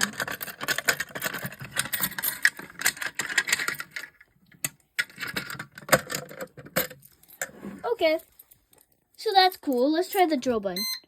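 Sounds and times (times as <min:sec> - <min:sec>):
clicking and rattling of devices: 0:00.0 - 0:11.0.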